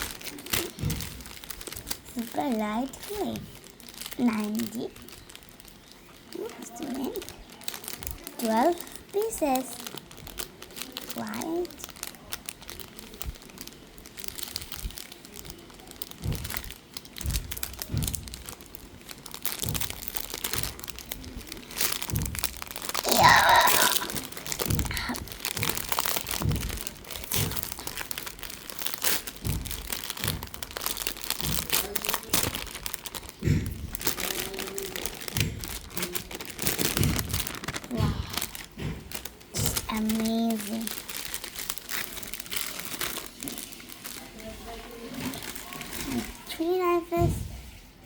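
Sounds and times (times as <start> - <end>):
plastic packaging crinkling: 0.0 - 47.8.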